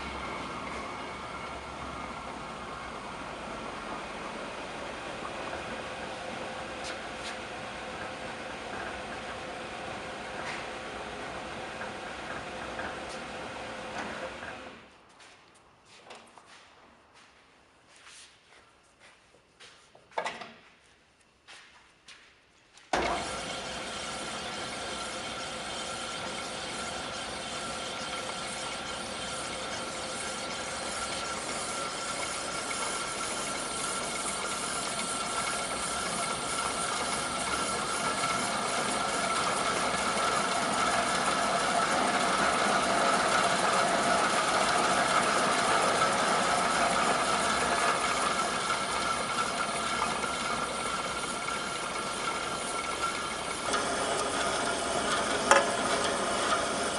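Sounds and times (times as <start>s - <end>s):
band saw running: 0.0s - 14.8s, 23.0s - 56.9s.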